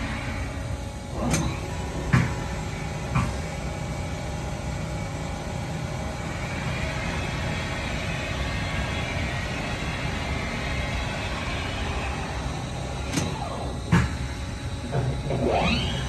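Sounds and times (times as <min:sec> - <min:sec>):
machining center running: 0:00.0 - 0:16.0.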